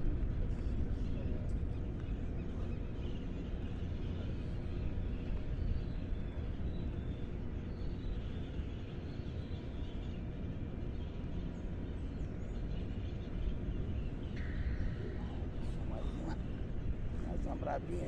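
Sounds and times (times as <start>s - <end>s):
steady low rumble: 0.0s - 18.0s
faint bird calls: 0.6s - 18.0s.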